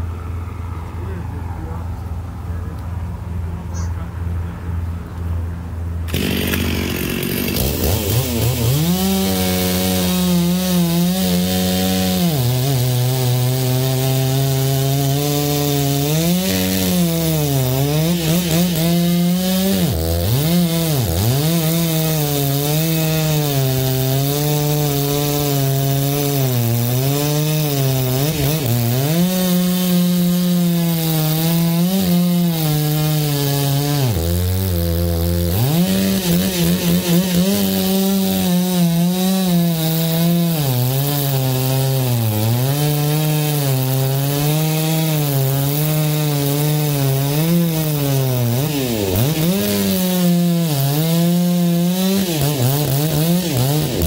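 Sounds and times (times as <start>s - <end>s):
chainsaw cutting into stump: 6.1s - 54.0s.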